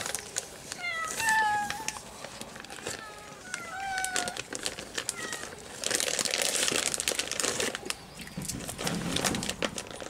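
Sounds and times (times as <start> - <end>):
plastic crinkling rustle: 0.0 - 10.0.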